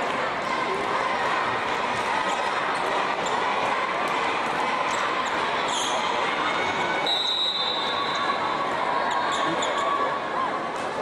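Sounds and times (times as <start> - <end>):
crowd din indoors: 0.0 - 11.0.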